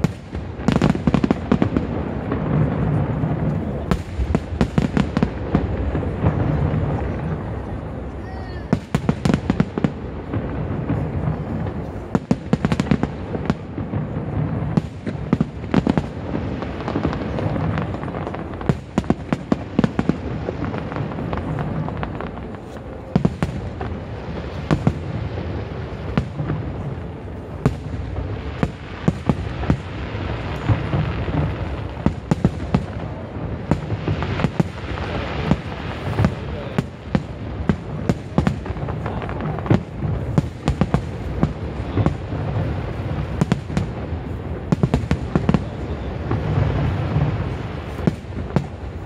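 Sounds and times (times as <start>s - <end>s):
fireworks bangs and crackle: 0.0s - 49.0s.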